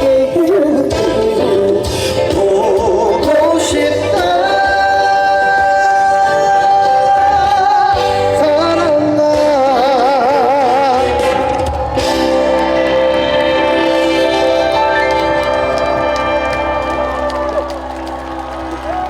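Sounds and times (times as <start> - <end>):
band playing: 0.0 - 19.0.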